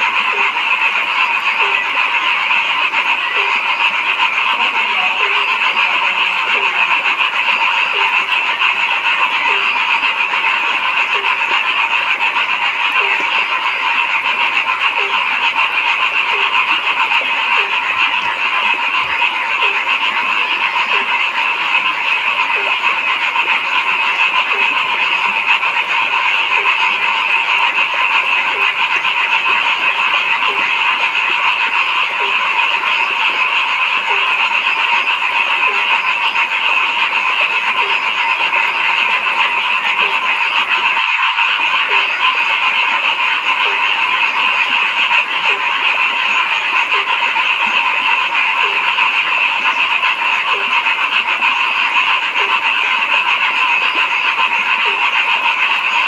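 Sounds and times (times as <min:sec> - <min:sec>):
chorus of frogs calling: 0:00.0 - 0:56.0
low repeating frog call: 0:00.0 - 0:56.0.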